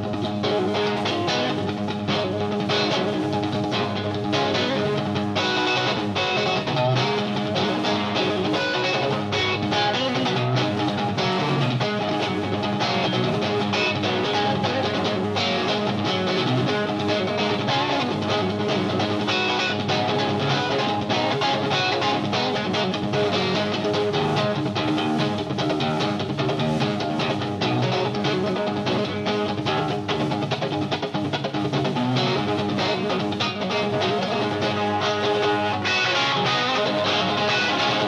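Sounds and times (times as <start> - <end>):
blues-rock band playing: 0.0 - 38.0
electric guitar: 0.0 - 38.0.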